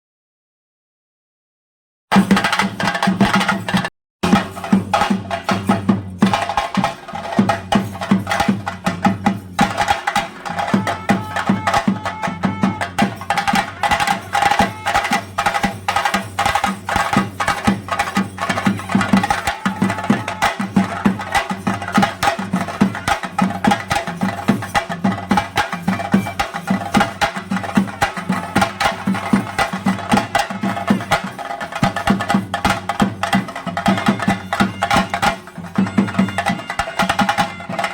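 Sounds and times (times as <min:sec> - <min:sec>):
drums beaten in fast rhythm: 0:02.1 - 0:37.9.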